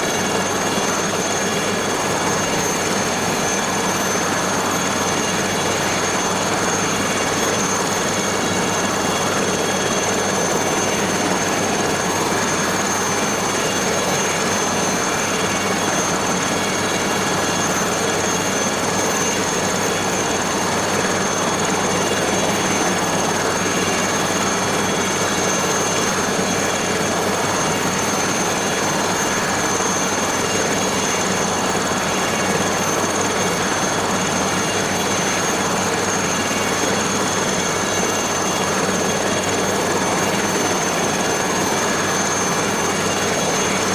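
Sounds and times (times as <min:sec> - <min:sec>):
helicopter engine and rotor rush: 0:00.0 - 0:43.9
helicopter turbine whine: 0:00.0 - 0:43.9.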